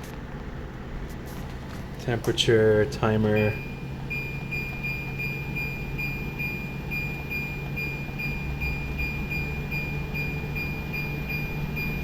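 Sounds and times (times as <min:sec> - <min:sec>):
air conditioner hum and rushing air: 0:00.0 - 0:12.0
pulsing high fan whine: 0:00.0 - 0:12.0.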